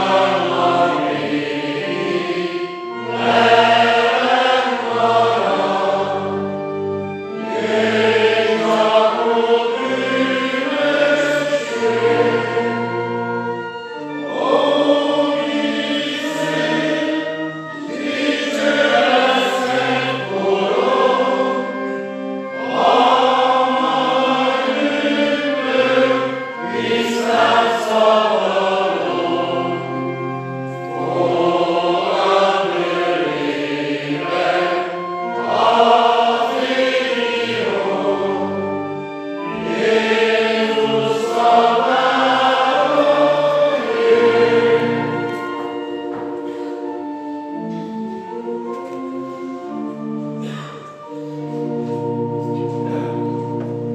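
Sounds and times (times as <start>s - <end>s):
congregation singing a hymn: 0.0s - 53.9s
pipe organ: 0.0s - 53.9s.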